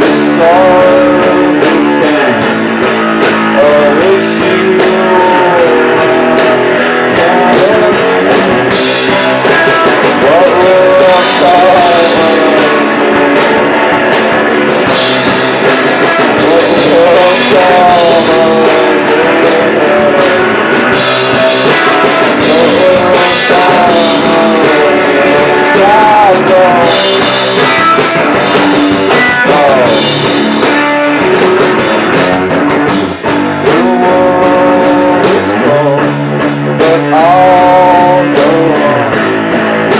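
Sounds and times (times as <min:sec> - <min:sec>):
drum kit with cymbals: 0:00.0 - 0:39.9
electric guitars: 0:00.0 - 0:39.9.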